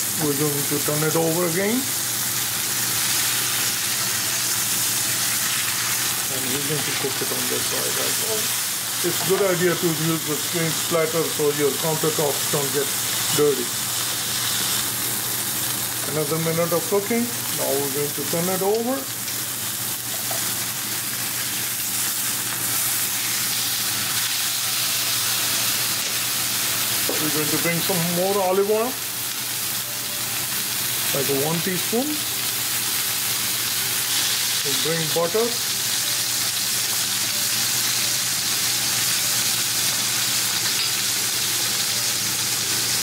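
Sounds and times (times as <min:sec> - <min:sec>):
steak sizzling in frying pan: 0:00.0 - 0:43.0.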